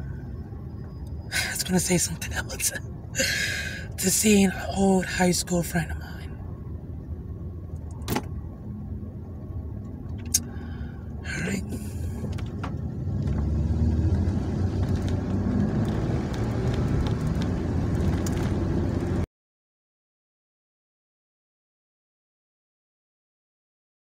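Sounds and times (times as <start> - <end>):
car engine and road rumble: 0.0 - 19.3.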